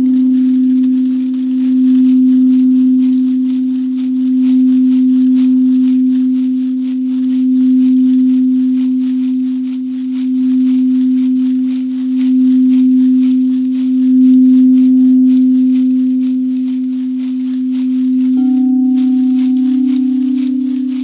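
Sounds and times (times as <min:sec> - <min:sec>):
singing bowl low tone: 0:00.0 - 0:21.0.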